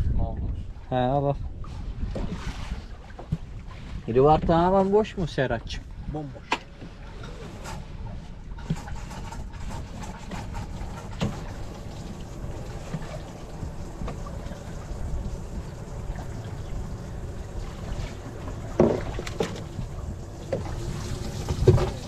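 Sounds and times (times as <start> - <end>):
wind buffeting microphone: 0.0 - 22.0
water slapping against boat hull: 1.5 - 5.4, 6.4 - 22.0.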